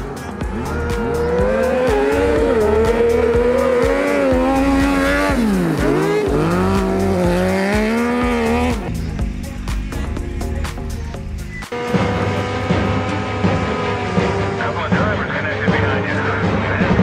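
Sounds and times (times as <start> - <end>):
race car engine at high revs: 0.0 - 8.9, 11.7 - 17.0.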